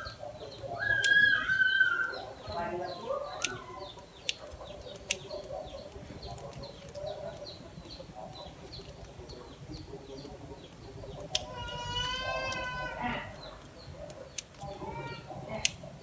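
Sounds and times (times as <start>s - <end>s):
bird chirping: 0.0s - 16.0s
sharp clicks: 0.4s - 2.7s, 3.3s - 16.0s.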